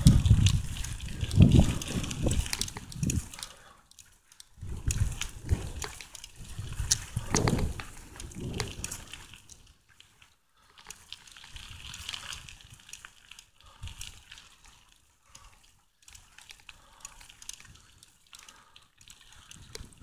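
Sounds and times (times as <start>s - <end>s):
bicycle tyres hissing on dirt: 0.0s - 20.0s
bike clicks and rattles: 0.0s - 20.0s.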